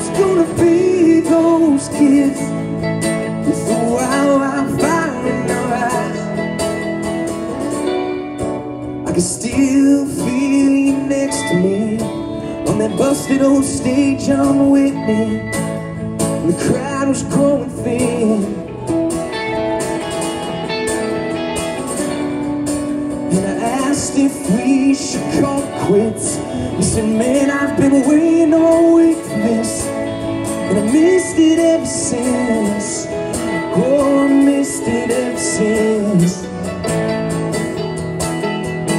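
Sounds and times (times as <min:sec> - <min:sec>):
man singing: 0:00.0 - 0:06.8, 0:08.7 - 0:19.3, 0:23.1 - 0:37.8
acoustic guitar strumming: 0:00.0 - 0:38.9.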